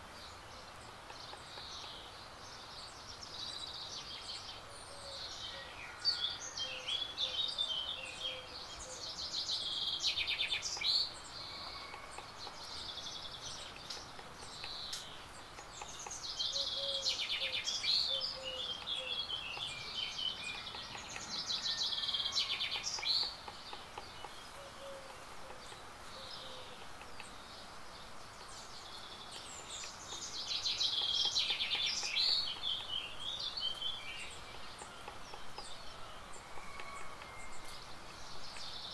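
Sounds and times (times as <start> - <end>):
outdoor background hiss: 0.0 - 38.9
songbird warbling: 3.4 - 27.6, 28.4 - 38.9.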